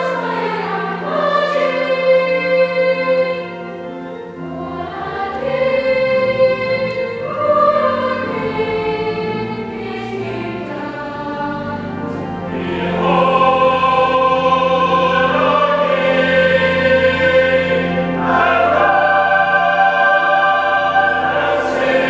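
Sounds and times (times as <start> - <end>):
choir singing in parts: 0.0 - 22.0.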